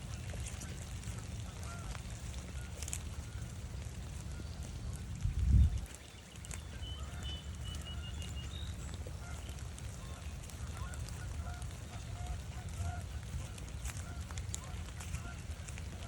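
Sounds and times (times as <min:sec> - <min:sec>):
geese honking: 0:00.0 - 0:05.2, 0:05.8 - 0:16.0
wind on microphone: 0:00.0 - 0:16.0.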